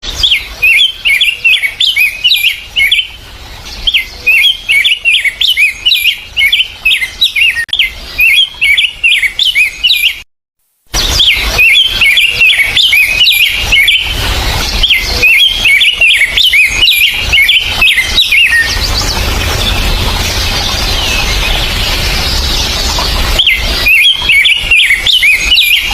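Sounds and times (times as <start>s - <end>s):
songbird chirping: 0.0s - 10.2s, 10.9s - 25.9s.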